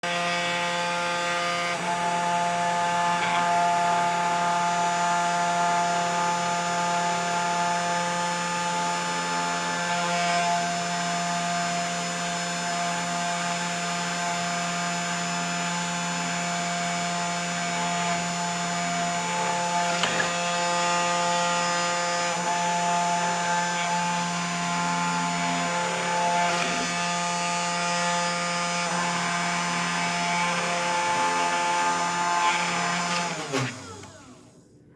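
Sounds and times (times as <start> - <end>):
router spindle motor whine: 0.0 - 34.9.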